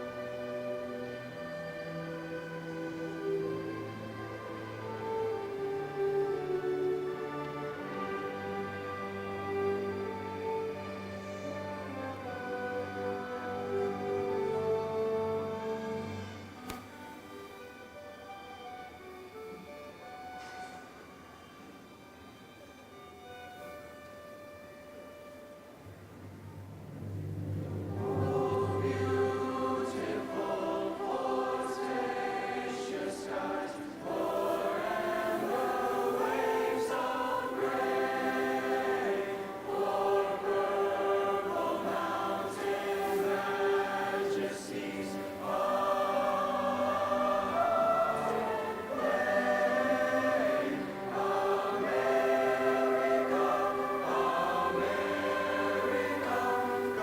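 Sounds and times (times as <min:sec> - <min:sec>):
choir singing: 0:00.0 - 0:17.8, 0:27.0 - 0:57.0.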